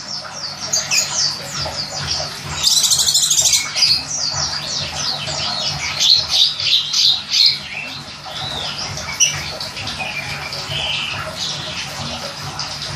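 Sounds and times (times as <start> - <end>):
songbird chirping and trilling: 0.0 - 12.2
running water: 0.0 - 12.9.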